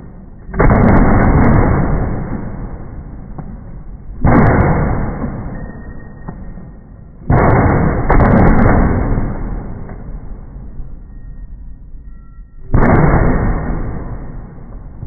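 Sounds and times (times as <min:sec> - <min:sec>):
rifle shots with echo: 0:00.5 - 0:10.8, 0:12.7 - 0:15.0.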